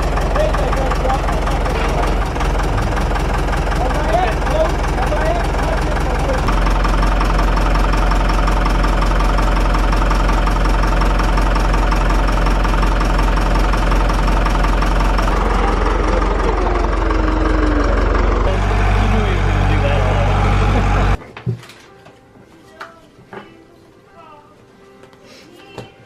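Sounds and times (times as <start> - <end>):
tractor engine idling: 0.0 - 21.2.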